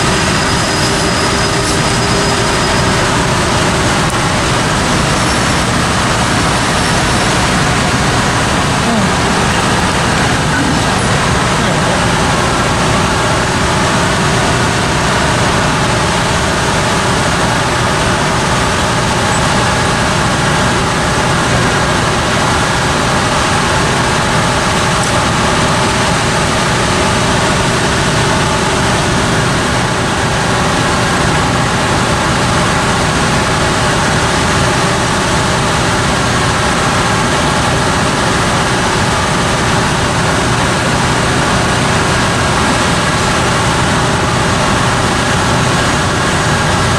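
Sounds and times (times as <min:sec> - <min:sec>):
heavy vehicle engine rumble: 0:00.0 - 0:46.9.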